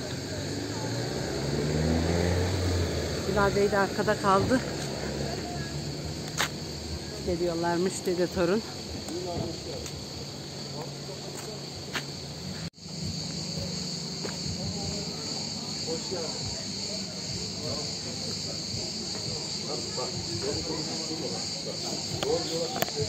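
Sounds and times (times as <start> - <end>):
faint voices of people: 0.0 - 1.8, 2.5 - 23.0
cicadas droning: 0.0 - 23.0.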